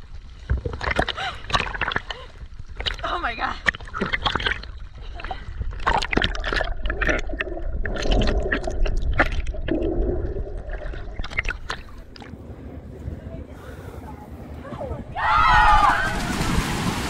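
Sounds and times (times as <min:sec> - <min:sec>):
sea water splashing and gurgling: 0:00.0 - 0:12.7, 0:15.2 - 0:17.0.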